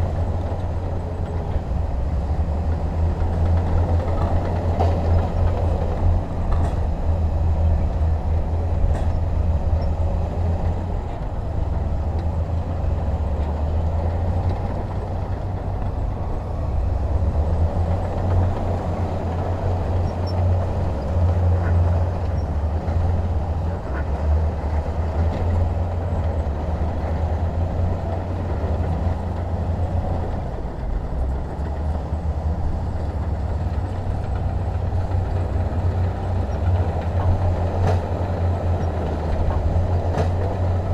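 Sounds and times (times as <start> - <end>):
diesel engine rumbling: 0.0 - 40.9.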